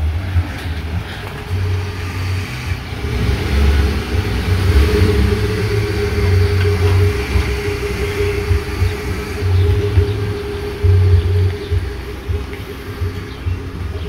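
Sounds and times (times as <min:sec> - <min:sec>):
pickup truck engine running: 0:00.0 - 0:14.0.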